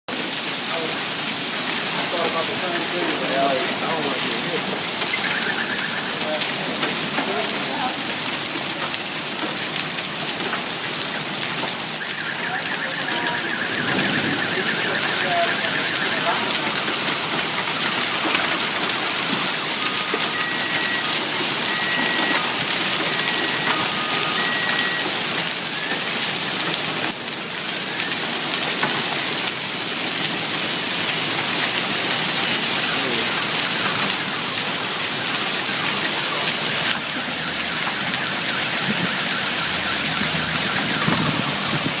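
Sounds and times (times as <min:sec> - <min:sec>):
hail and heavy rain hitting: 0:00.1 - 0:42.0.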